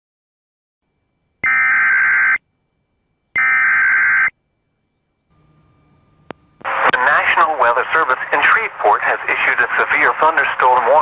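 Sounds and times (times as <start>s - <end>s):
buzzing electronic data tone: 0.8s - 11.0s.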